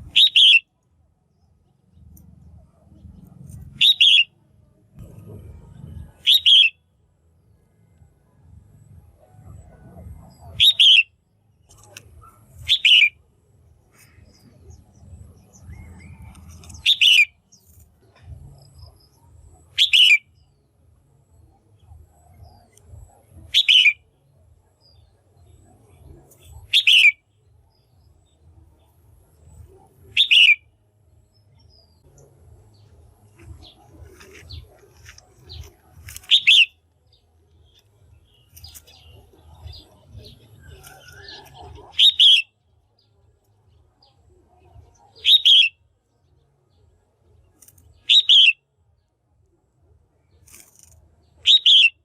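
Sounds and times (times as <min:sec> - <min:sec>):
faint low rumble: 0:00.0 - 0:51.5.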